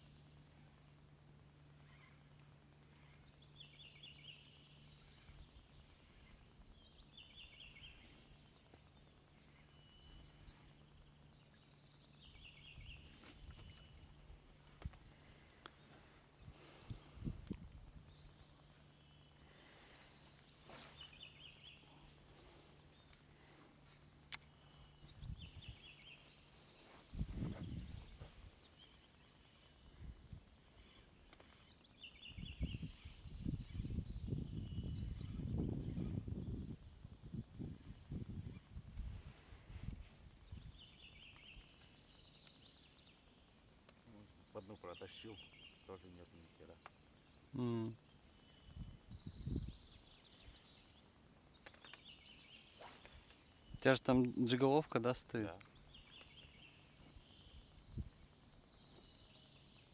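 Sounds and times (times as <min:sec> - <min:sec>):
faint steady hum: 0:00.0 - 0:53.9
songbird singing: 0:00.0 - 0:59.9.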